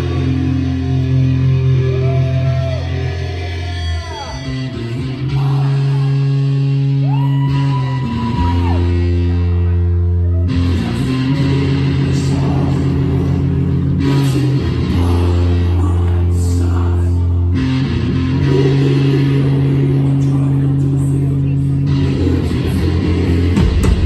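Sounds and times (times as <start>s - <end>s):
lead guitar bending notes: 0.0s - 24.0s
low held chords: 0.0s - 24.0s.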